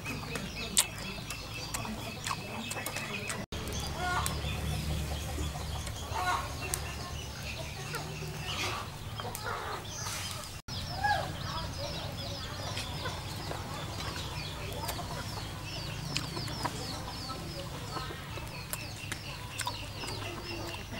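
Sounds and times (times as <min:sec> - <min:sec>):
chickens clucking: 0:00.0 - 0:20.9
small birds chirping: 0:00.0 - 0:20.9.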